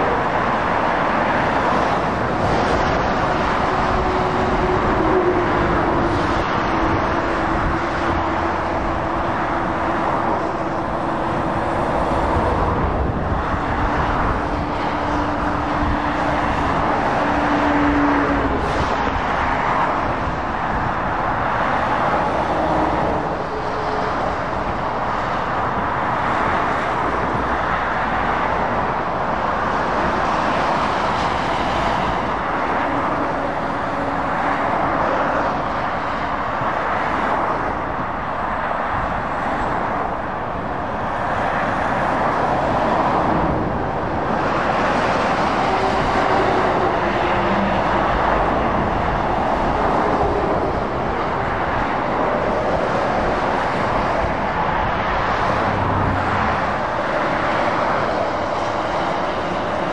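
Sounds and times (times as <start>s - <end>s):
motorway traffic passing: 0.0s - 59.9s.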